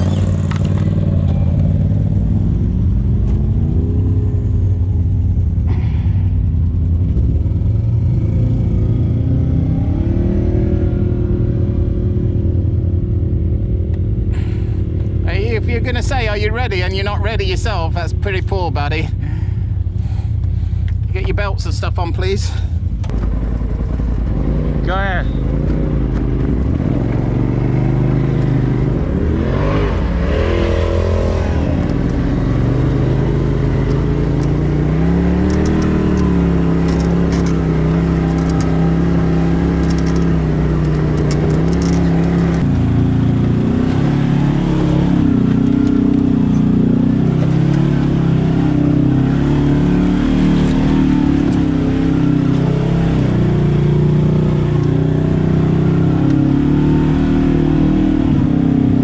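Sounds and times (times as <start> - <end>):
higher-pitched vehicle engine: 0.0 - 59.0
utility vehicle engine driving: 0.0 - 59.0.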